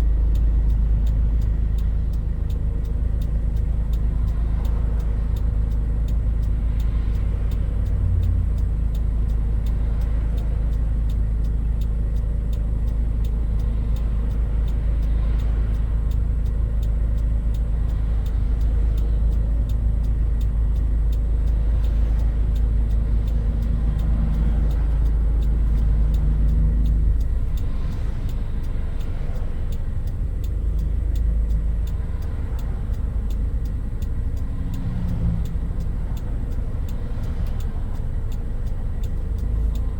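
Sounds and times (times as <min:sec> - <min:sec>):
faint engine hum: 0:00.0 - 0:39.9.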